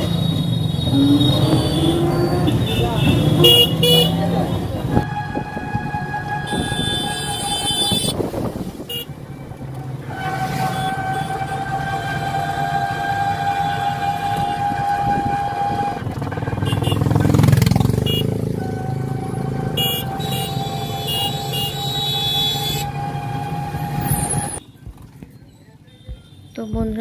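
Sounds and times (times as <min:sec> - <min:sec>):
road rumble: 0:00.0 - 0:27.0.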